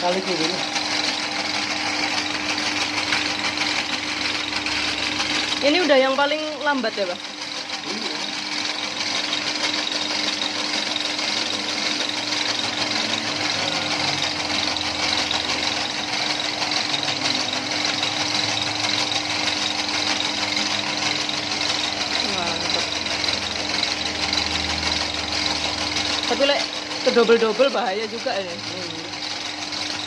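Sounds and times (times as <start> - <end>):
noodle machine motor humming: 0.0 - 30.0.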